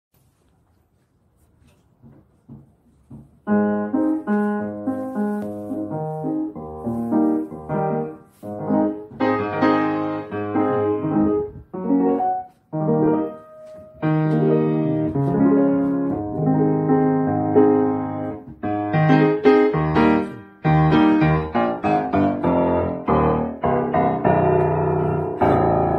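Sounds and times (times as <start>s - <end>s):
piano playing loud chords: 3.5s - 25.9s.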